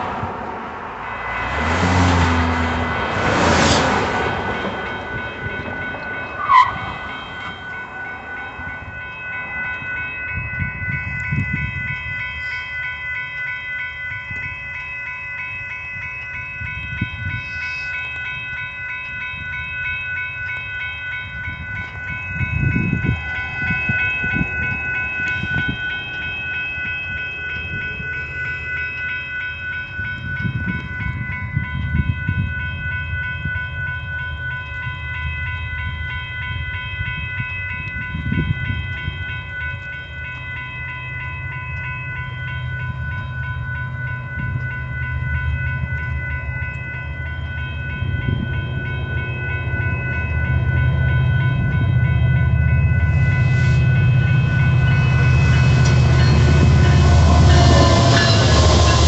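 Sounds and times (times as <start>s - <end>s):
crossing warning bell ringing: 0.0s - 59.0s
freight train rumble: 0.0s - 59.0s.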